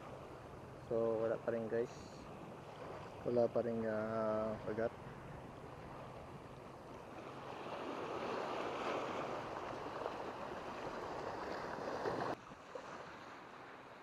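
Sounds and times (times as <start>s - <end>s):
surf breaking on a beach: 0.0s - 14.0s.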